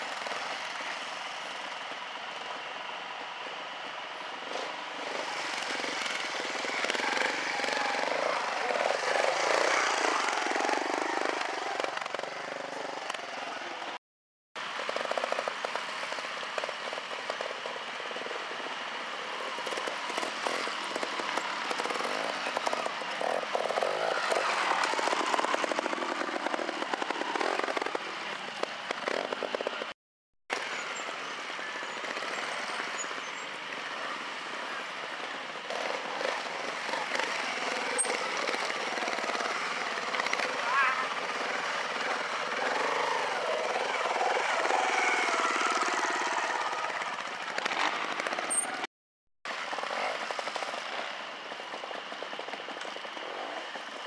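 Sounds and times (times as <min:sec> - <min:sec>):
motorcycle engine revving: 0:04.3 - 0:14.0, 0:14.6 - 0:30.0, 0:30.6 - 0:48.9.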